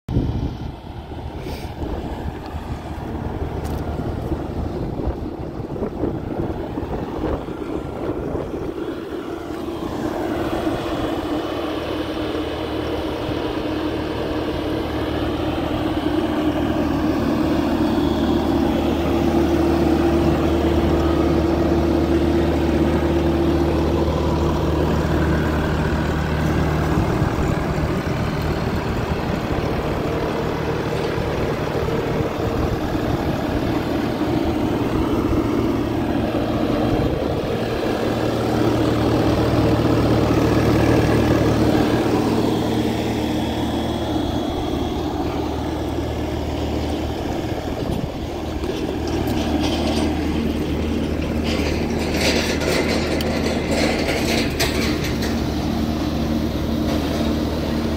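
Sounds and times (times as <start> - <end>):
diesel engine idling: 0.1 - 57.9.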